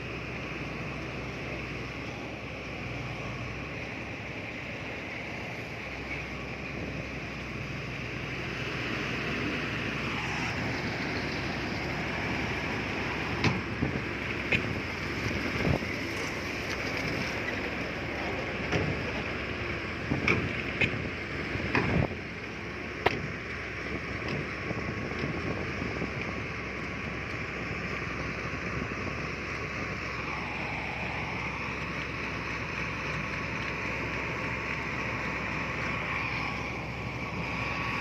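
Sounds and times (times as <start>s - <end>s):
diesel construction machinery: 0.0s - 38.0s.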